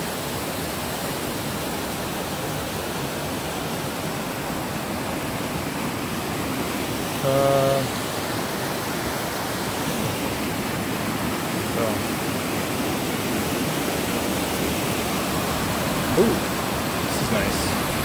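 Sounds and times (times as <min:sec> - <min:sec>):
creek rushing over boulders: 0:00.0 - 0:18.0.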